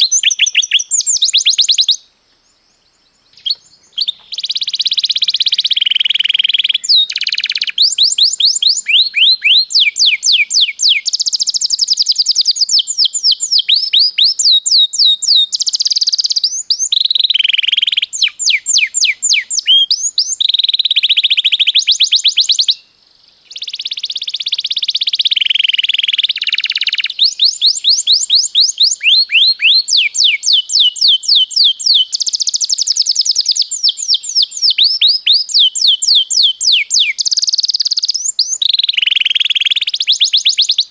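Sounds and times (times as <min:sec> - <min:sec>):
canary singing: 0:00.0 - 0:02.0, 0:03.3 - 0:22.8, 0:23.5 - 0:40.9.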